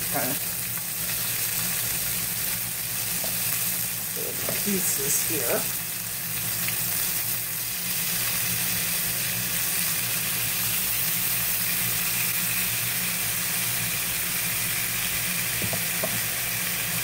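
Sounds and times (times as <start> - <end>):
steak sizzling in a skillet: 0.0 - 17.0.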